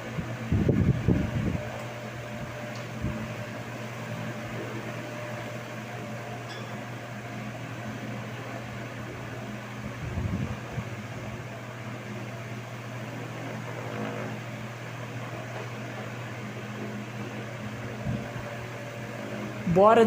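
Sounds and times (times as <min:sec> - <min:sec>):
fan blades rushing air: 0:00.0 - 0:20.0
low motor hum: 0:00.0 - 0:20.0.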